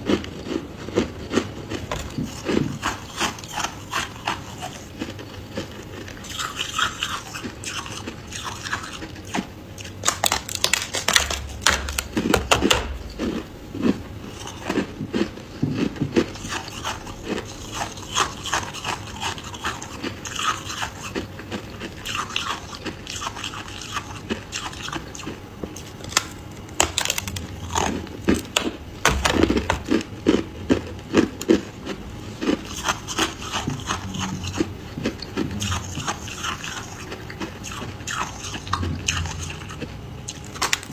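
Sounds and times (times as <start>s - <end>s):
frost being crunched and chewed: 0.0s - 40.9s.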